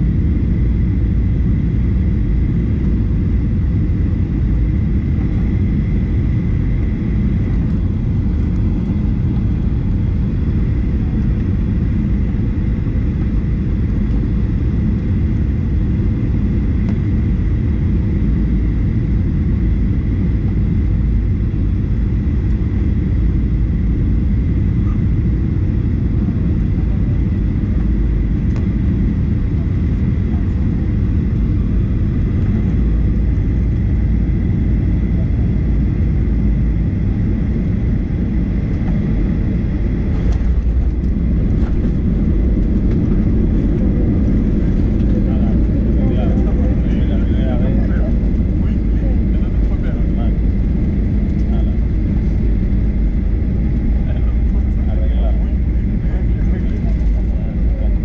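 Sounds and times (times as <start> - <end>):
engines and airflow rumble: 0.0 - 58.0.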